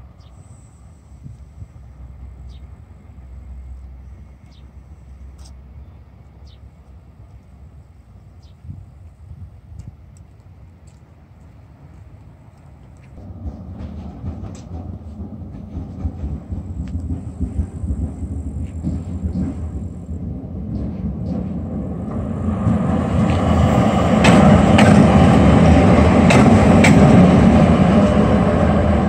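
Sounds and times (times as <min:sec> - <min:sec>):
diesel locomotive engine rumble: 0:00.0 - 0:29.0
passenger coaches rolling: 0:00.0 - 0:29.0
train wheels clicking on rail joints: 0:00.2 - 0:29.0.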